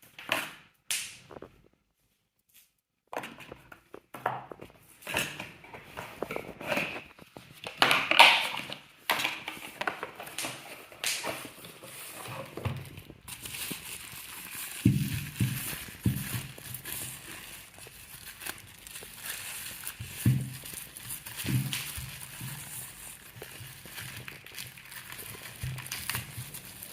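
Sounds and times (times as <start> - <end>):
packaging crinkling and rustling: 3.2 - 26.9.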